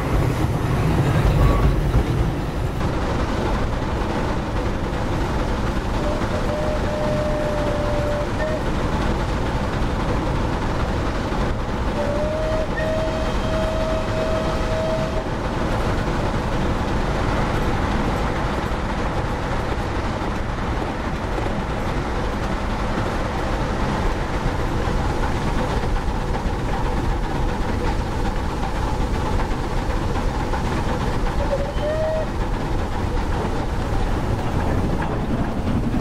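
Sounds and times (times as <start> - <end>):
model train rumbling: 0.0 - 36.0.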